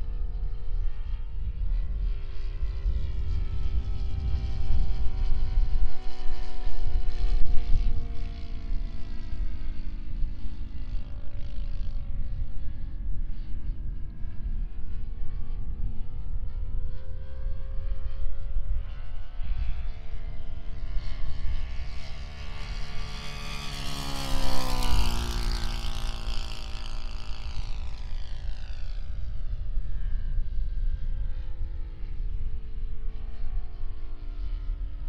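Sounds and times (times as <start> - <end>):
model airplane propeller drone: 0.0 - 35.0.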